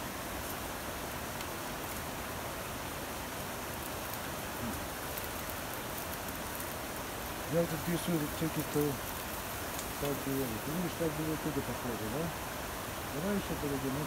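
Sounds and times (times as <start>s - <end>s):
rain on forest foliage: 0.0s - 14.0s.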